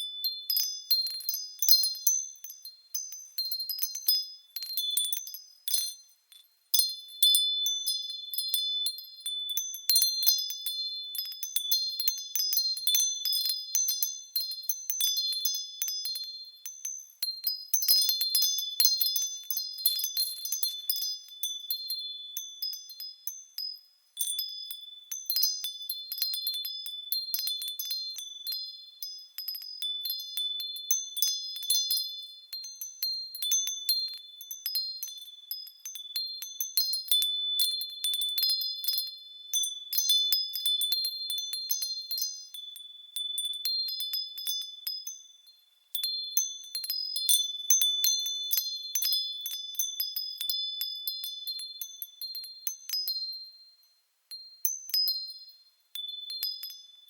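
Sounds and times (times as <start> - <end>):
wind chimes tinkling: 0.0 - 57.0.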